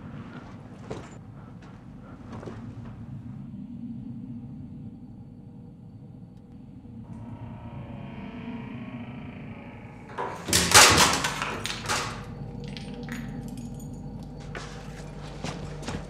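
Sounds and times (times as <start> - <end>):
low steady droning: 0.0 - 16.0.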